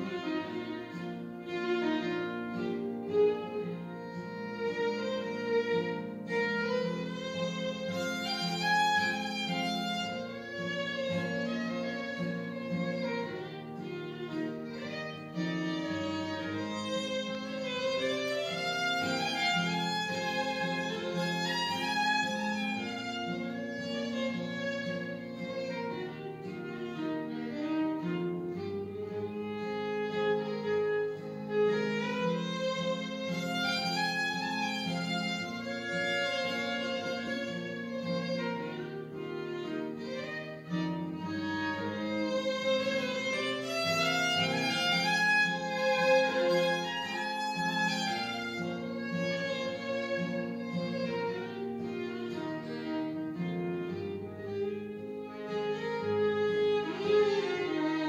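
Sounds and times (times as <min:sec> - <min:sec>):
acoustic guitar: 0:00.0 - 0:58.0
fiddle melody: 0:00.0 - 0:58.0.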